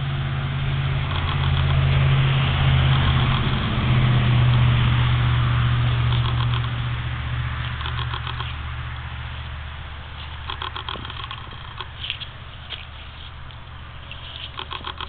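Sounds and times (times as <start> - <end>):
loud engine hum: 0.0 - 15.0.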